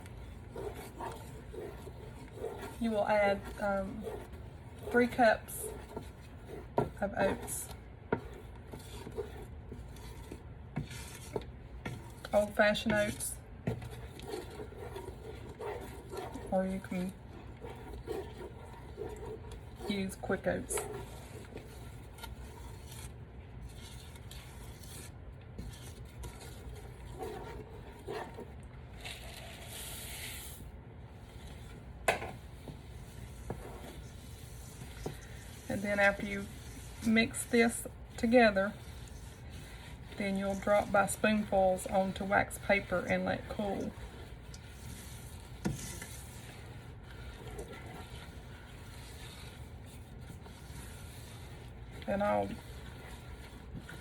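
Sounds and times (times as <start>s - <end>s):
spoon stirring thick batter in pot: 0.0s - 54.0s.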